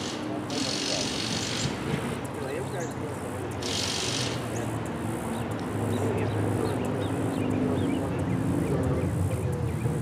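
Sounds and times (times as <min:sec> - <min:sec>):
car engines running: 0:00.0 - 0:10.0.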